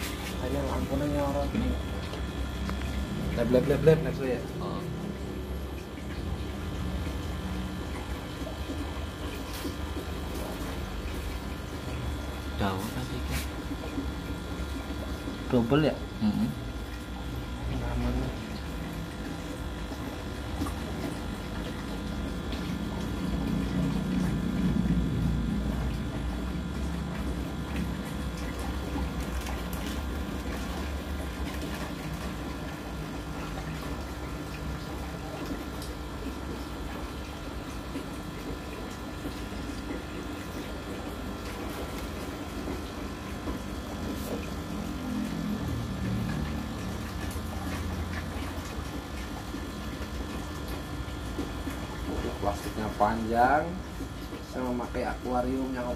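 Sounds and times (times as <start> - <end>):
aquarium pumps humming: 0.0 - 55.9.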